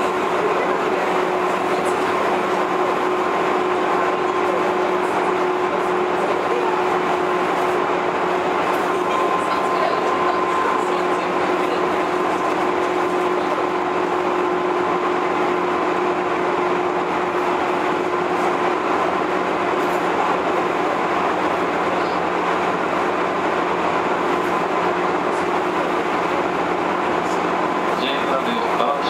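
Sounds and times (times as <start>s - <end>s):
steady whining tone: 0.0s - 29.0s
train wheels and motors rumbling: 0.0s - 29.0s.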